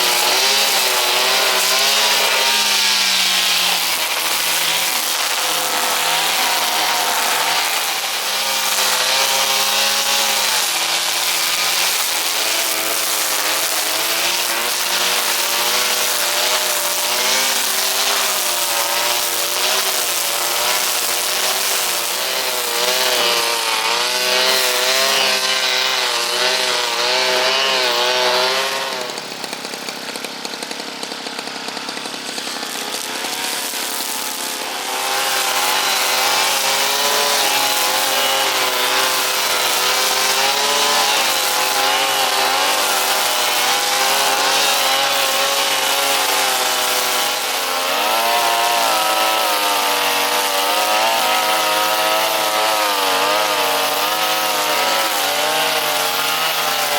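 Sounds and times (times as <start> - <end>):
brush cutter engine revving: 0.0 - 56.9.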